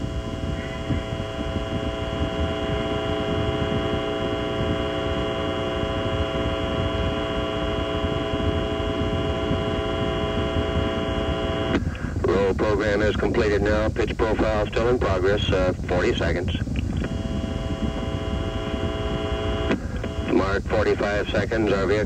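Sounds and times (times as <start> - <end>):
droning hum of held tones: 0.0 - 22.0.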